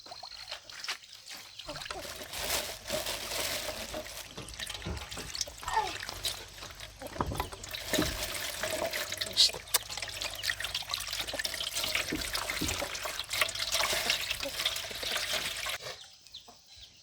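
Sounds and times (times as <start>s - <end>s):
water trickling and splashing: 0.0s - 15.8s.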